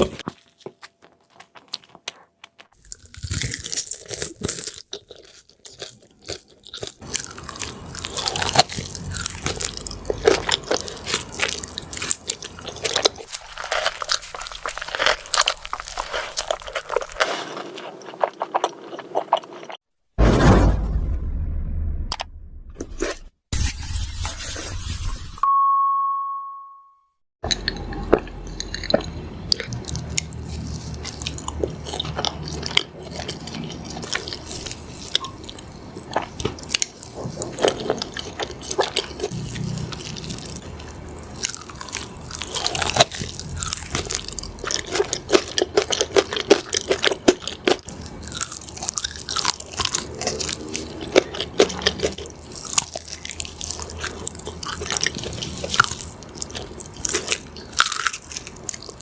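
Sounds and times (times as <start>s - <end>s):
crunchy bites and chewing: 0.0s - 19.8s, 27.5s - 59.0s.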